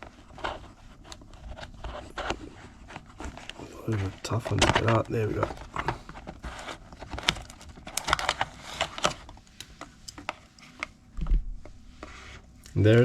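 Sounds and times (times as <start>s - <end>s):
cardboard packaging rustling and clicking: 0.0s - 11.0s.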